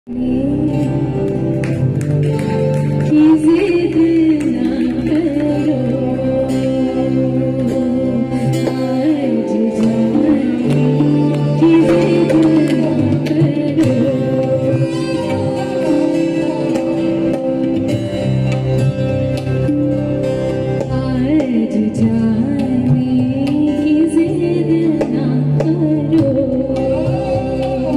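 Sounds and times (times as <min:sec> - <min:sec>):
woman singing: 0:00.1 - 0:01.8, 0:03.0 - 0:17.6, 0:20.8 - 0:27.9
guitar: 0:00.1 - 0:27.9
held keyboard chords: 0:00.1 - 0:27.9
tabla: 0:00.1 - 0:27.9
violin: 0:00.1 - 0:27.9.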